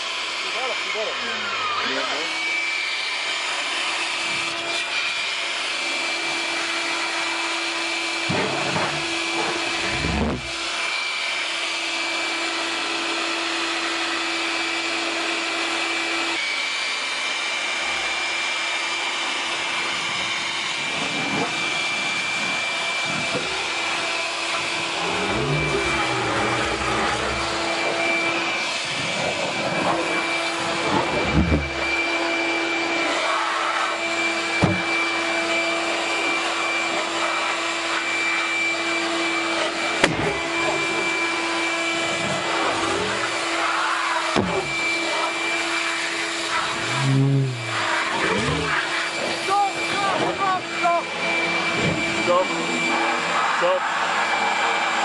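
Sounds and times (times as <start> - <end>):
electric leaf blower whining: 0.0 - 55.0.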